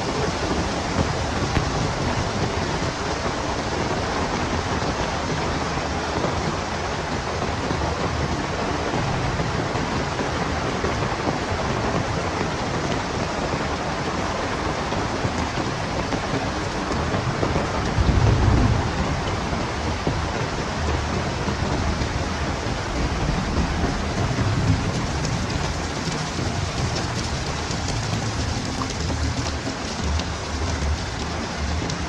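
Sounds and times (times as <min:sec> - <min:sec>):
heavy rain in wind: 0:00.0 - 0:32.0
strong low rumble: 0:00.0 - 0:32.0.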